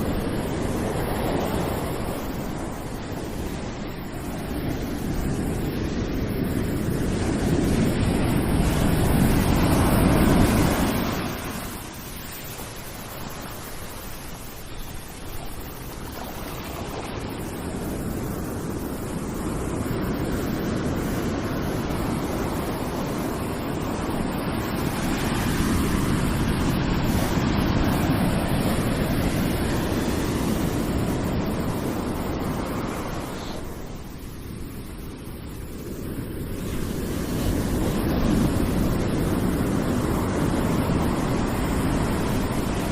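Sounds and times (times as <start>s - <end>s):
ocean surf waves breaking: 0.0s - 42.9s.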